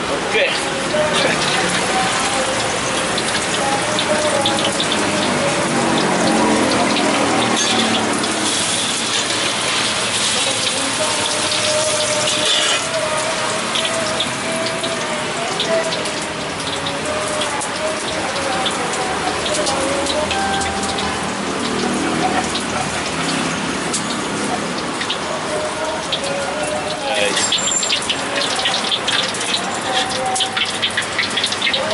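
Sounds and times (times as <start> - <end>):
oil sizzling in a wok: 0.0 - 31.9.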